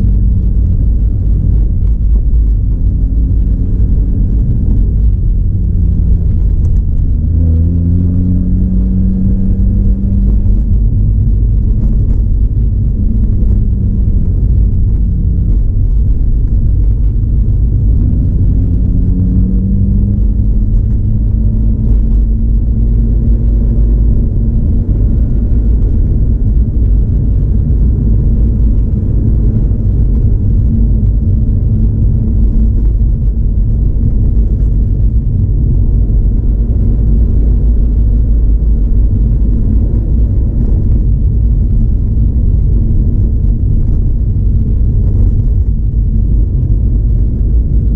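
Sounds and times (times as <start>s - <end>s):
car engine running while driving: 0.0s - 47.9s
low road rumble: 0.0s - 47.9s.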